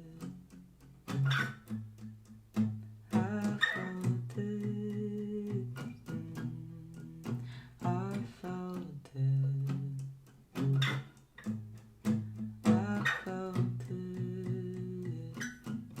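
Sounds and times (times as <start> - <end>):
guitar playing: 0.0 - 16.0.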